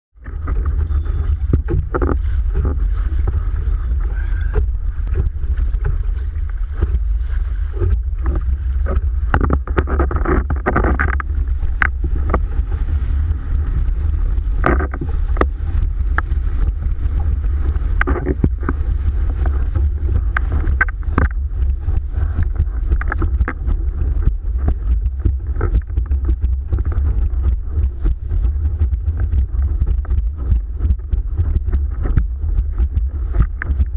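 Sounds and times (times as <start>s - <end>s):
wind buffeting microphone: 0.2s - 33.9s
board slapping on water: 0.3s - 33.9s.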